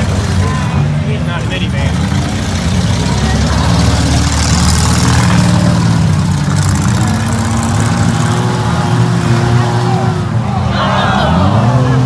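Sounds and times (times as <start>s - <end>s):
vehicle engines idling and revving: 0.0s - 12.0s.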